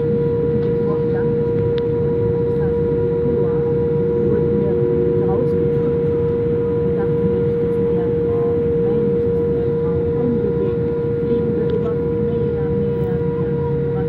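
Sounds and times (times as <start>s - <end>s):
aircraft cabin low rumble: 0.0s - 14.0s
engine whine: 0.0s - 14.0s.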